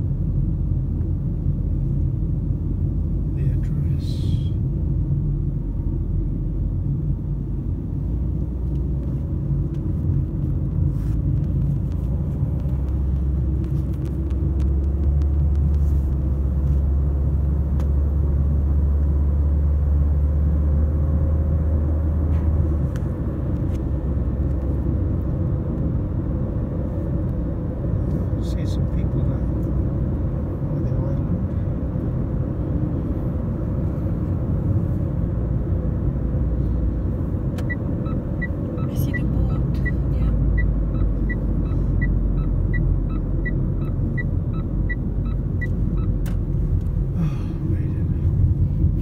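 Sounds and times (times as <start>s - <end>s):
road and engine rumble: 0.0s - 49.0s.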